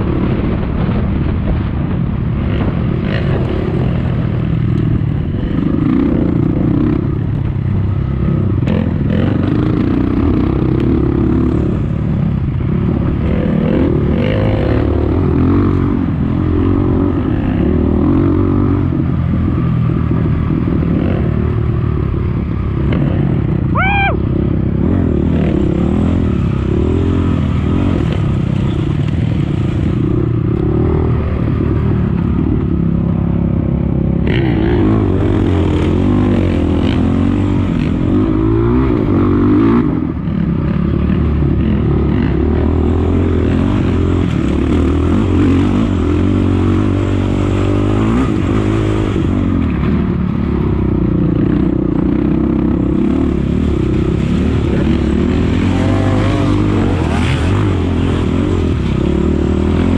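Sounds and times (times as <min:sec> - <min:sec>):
dirt bike engine revving: 0:02.5 - 0:59.9.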